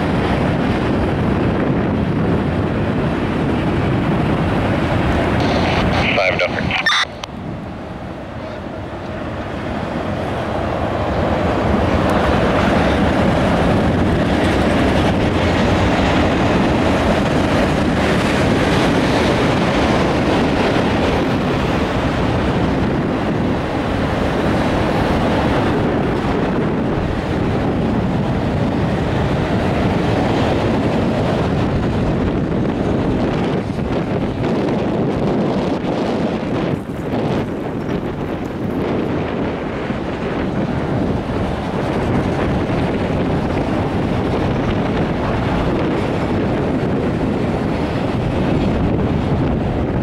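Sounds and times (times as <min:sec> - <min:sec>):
steel train wheels on rail: 0:00.0 - 0:06.5, 0:07.1 - 0:50.0.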